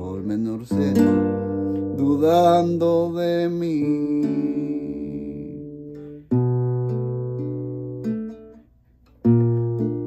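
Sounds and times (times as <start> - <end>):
classical guitar chord strummed: 0.0 - 10.0.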